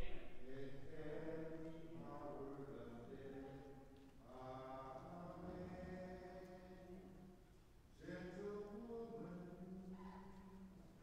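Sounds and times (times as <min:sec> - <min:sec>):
chant-like hymn singing: 0:00.0 - 0:11.0.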